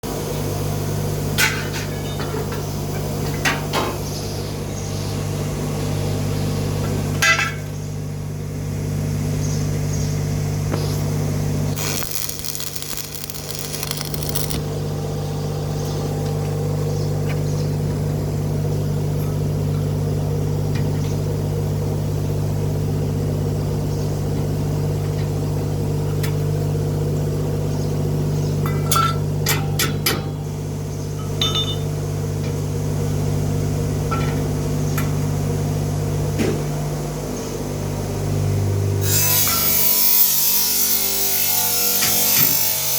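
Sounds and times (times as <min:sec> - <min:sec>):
machine electrical hum: 0:00.1 - 0:28.6, 0:29.2 - 0:40.3.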